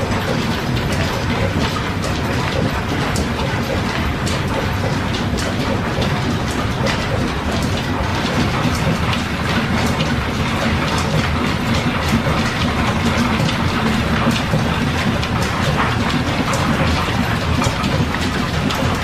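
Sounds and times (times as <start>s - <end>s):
machinery clicks and knocks: 0.0s - 19.0s
workshop machinery rumbling: 0.0s - 19.0s.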